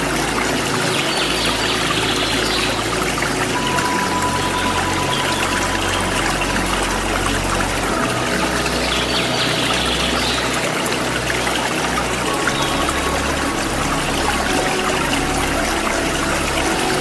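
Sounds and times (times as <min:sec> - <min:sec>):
waterfall rushing and splashing: 0:00.0 - 0:17.0.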